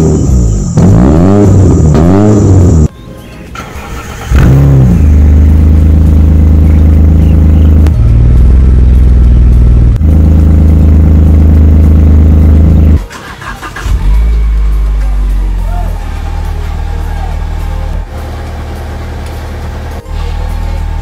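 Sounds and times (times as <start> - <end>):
car engine starting and idling: 3.5 - 21.0.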